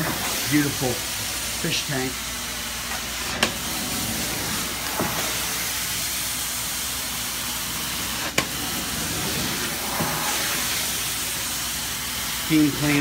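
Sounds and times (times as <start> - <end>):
carpet cleaning wand hissing: 0.0 - 13.0.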